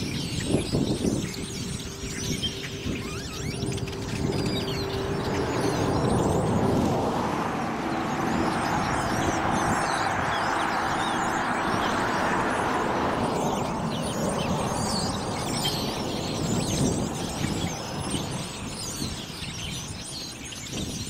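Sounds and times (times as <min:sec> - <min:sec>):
rushing noise: 0:00.0 - 0:18.6
flock of blackbirds chattering: 0:00.0 - 0:21.0.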